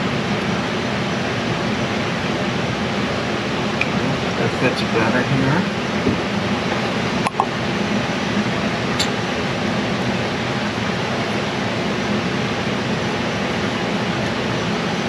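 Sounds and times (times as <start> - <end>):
ventilation fan rushing: 0.0 - 15.0.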